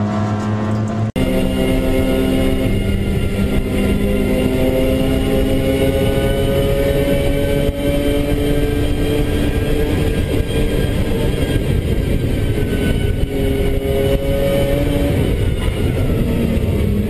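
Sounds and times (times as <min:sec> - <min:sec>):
race car engine at speed: 0:00.0 - 0:17.0.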